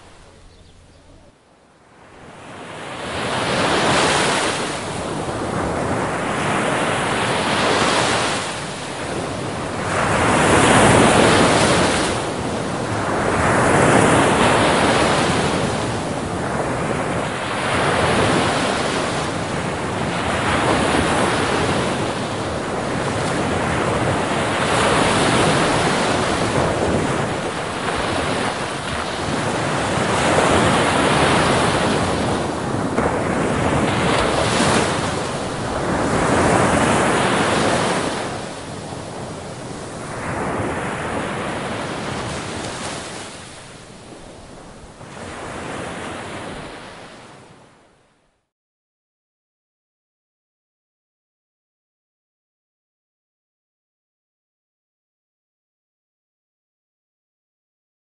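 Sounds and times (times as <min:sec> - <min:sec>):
sea surf breaking: 0:00.0 - 0:47.6
wind rumbling on microphone: 0:00.0 - 0:47.6.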